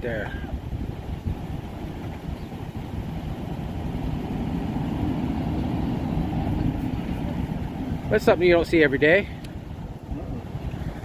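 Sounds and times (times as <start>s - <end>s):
steady low hum: 0.0s - 11.0s
vehicle engine idling: 0.1s - 11.0s.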